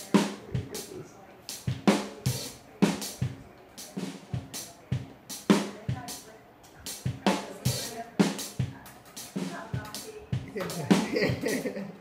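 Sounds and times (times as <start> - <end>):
music with drum-kit beat: 0.0 - 12.0.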